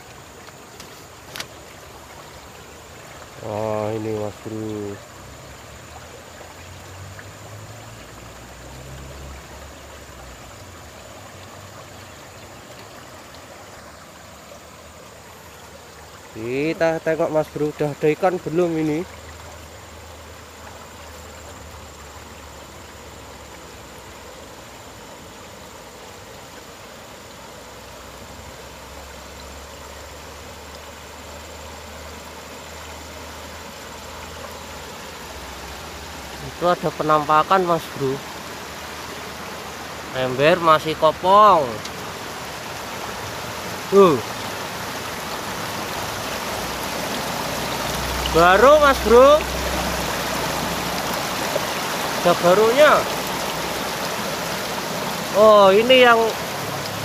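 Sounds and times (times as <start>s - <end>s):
river current rushing: 0.0s - 57.0s.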